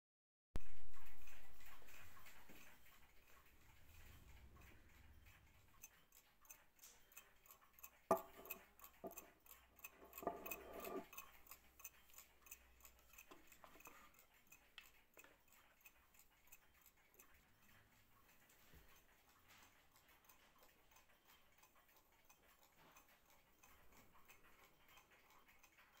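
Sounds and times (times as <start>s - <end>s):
clock ticking faintly: 0.6s - 26.0s.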